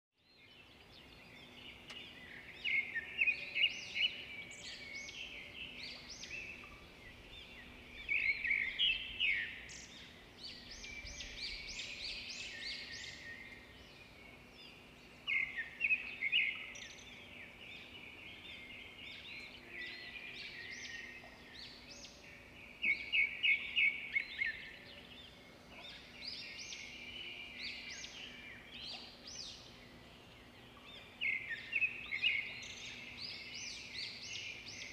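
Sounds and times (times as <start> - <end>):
birds chirping: 0.3 - 34.9.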